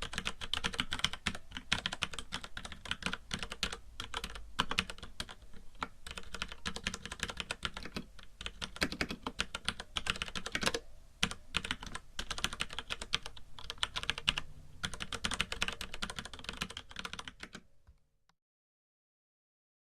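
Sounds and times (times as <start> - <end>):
mechanical keyboard typing: 0.0 - 18.0.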